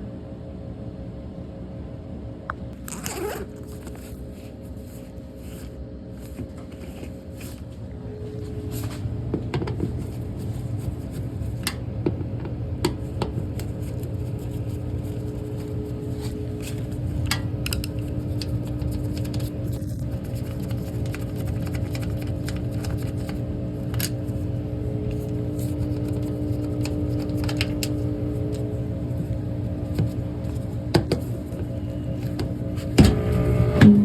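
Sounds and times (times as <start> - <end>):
furnace humming: 0.0 - 34.0.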